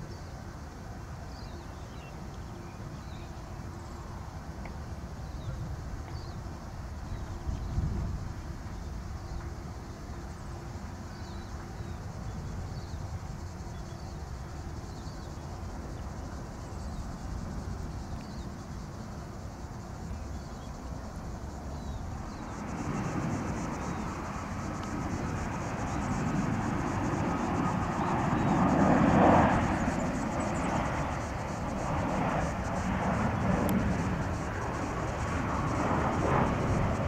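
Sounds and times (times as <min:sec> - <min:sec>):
distant jet engine rumble: 0:00.1 - 0:37.0.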